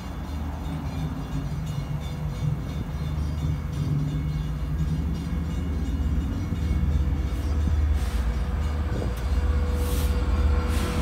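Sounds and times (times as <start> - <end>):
diesel locomotive rumbling: 0.0 - 11.0.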